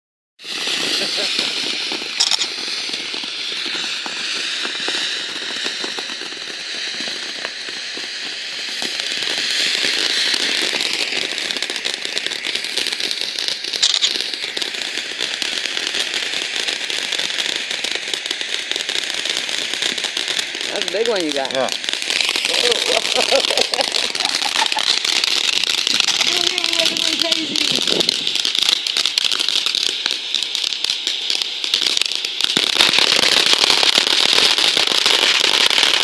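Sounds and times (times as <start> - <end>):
fountain fireworks hissing and crackling: 0.4 - 36.0.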